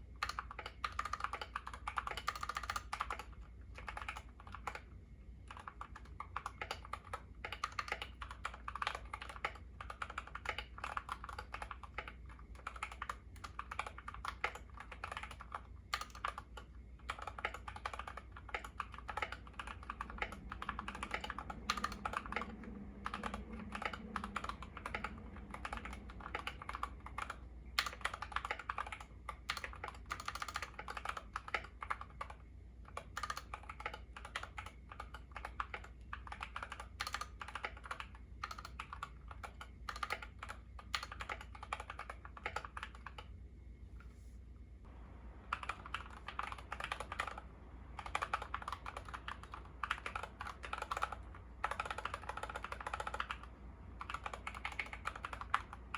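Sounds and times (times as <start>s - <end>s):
fast typing on mechanical keyboard: 0.0s - 43.3s, 45.4s - 55.9s.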